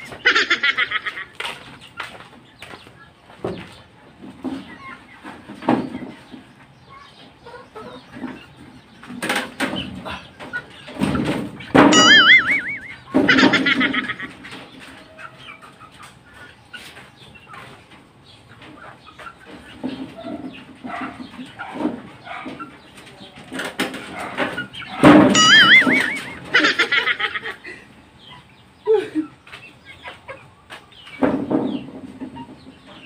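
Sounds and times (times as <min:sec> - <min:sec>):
chickens clucking and squawking: 0:00.0 - 0:33.0.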